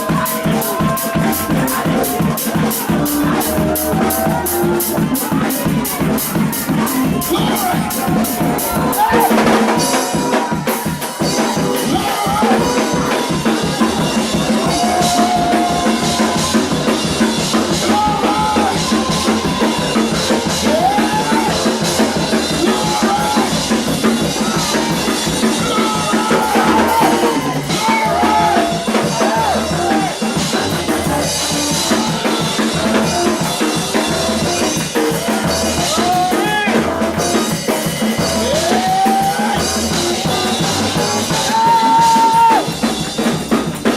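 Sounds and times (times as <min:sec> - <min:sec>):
drum kit beat: 0:00.0 - 0:43.9
live praise band playing: 0:00.0 - 0:43.9.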